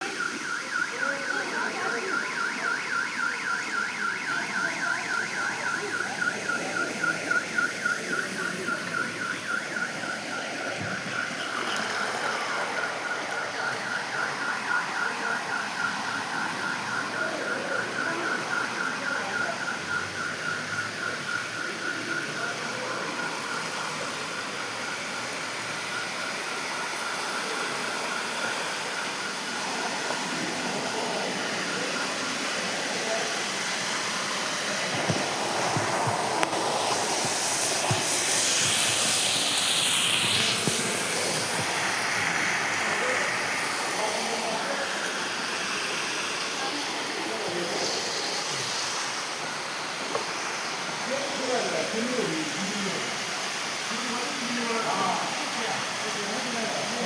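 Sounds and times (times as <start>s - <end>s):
pulsing electronic alarm: 0.0s - 50.0s
floodwater rushing: 0.0s - 57.0s.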